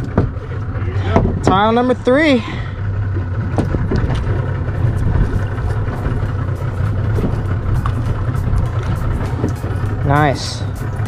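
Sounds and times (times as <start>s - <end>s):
outboard engines idling: 0.0s - 11.0s.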